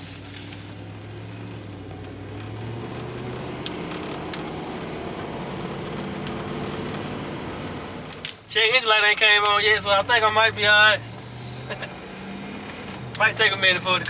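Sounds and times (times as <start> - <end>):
pickup engine running: 0.0 - 14.0.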